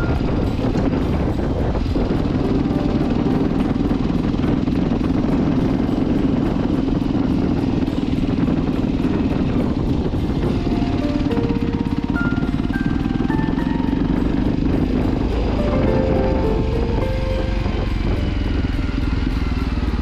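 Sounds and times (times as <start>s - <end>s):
faint background music: 0.0s - 20.0s
motorcycle engine running: 0.0s - 20.0s.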